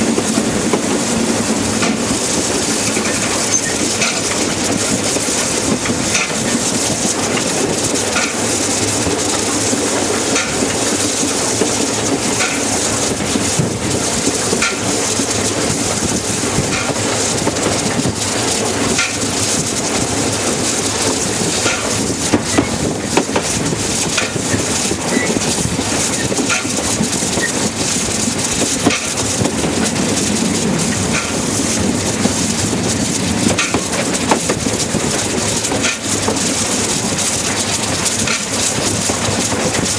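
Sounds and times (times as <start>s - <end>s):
steam train rolling and hissing: 0.0s - 39.9s.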